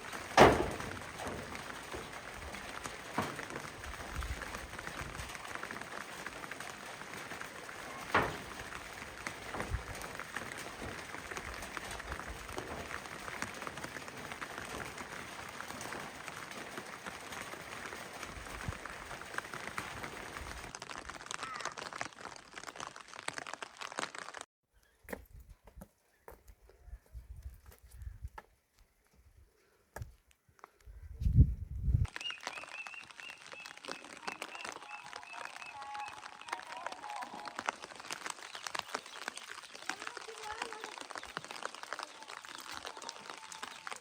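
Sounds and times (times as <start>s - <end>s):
rain pattering: 0.0s - 24.5s, 32.0s - 44.0s.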